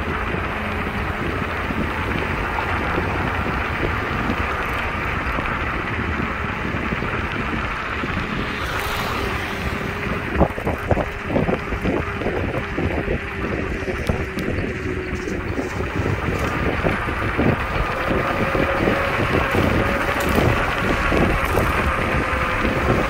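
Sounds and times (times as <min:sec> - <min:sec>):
scooter knocking and rattling: 0:00.0 - 0:23.0
scooter tyre noise: 0:00.0 - 0:23.0
wind on microphone: 0:00.0 - 0:23.0.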